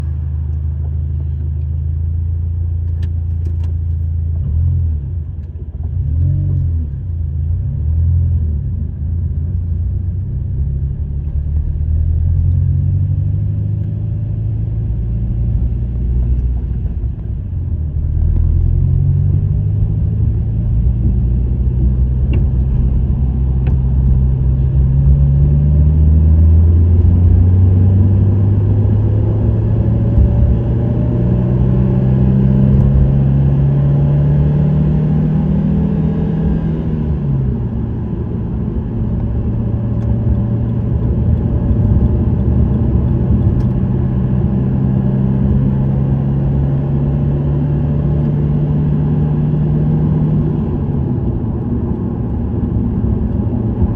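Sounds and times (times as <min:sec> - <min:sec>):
car exhaust drone: 0:00.0 - 0:53.9.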